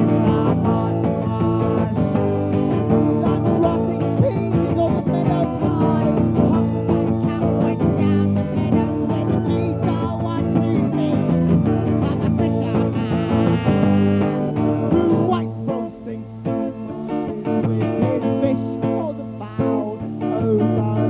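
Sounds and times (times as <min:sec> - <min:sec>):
guitar-led rock song: 0:00.0 - 0:21.0.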